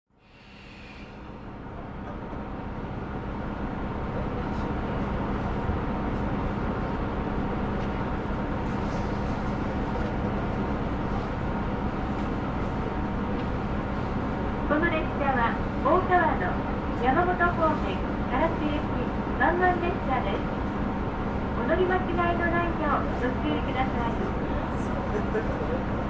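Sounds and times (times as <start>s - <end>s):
railcar diesel engine idling: 0.1s - 26.0s.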